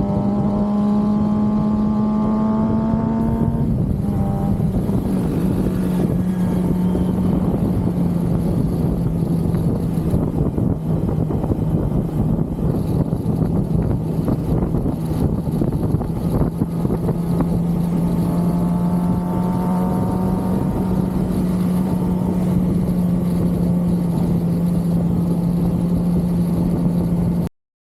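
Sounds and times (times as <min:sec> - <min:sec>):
motorcycle engine cruising: 0:00.0 - 0:27.5.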